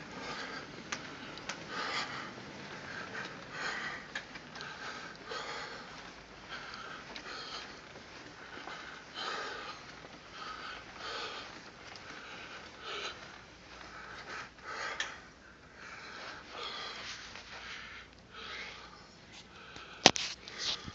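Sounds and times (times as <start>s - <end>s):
person breathing heavily: 0.0s - 20.9s.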